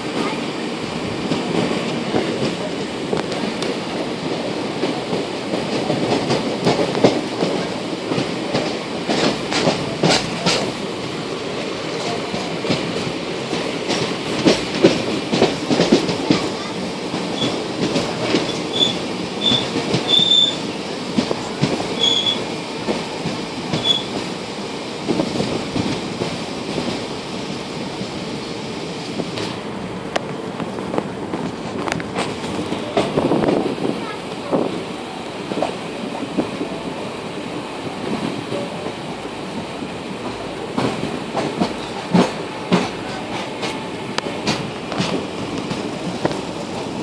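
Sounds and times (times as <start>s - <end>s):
train coaches rumbling: 0.0s - 47.0s.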